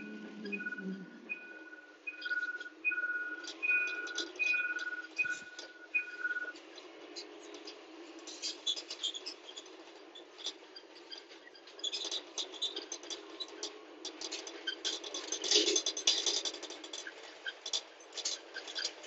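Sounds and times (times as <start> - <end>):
clicking and rattling in vehicle: 0.0 - 19.0.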